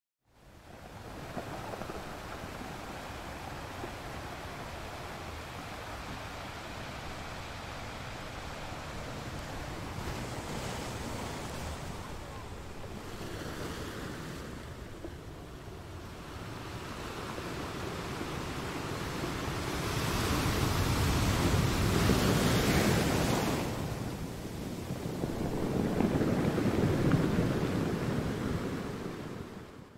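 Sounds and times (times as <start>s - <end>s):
rushing wind and surf: 0.4s - 29.9s
wind buffeting microphone: 0.4s - 29.9s.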